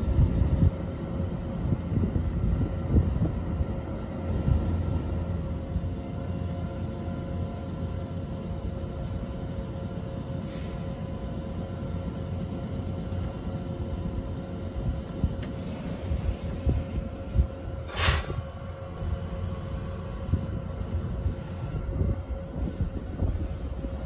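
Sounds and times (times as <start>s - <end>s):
electric train electrical hum: 0.0s - 24.0s.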